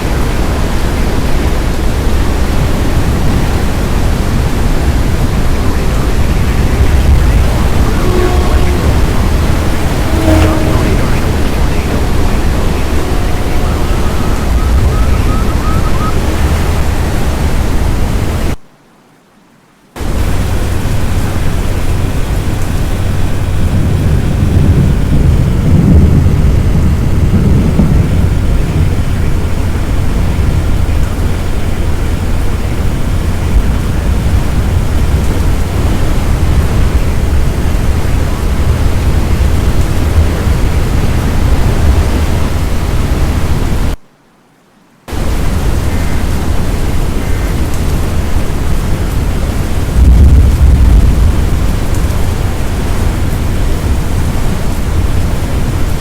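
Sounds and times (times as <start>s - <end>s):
storm wind buffeting microphone: 0.0s - 18.6s, 20.0s - 44.0s, 45.1s - 56.0s.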